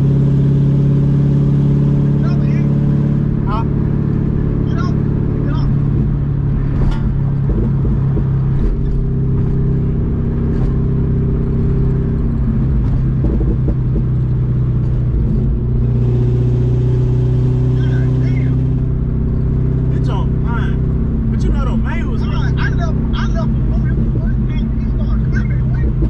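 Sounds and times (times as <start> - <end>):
car exhaust low drone: 0.0 - 26.0.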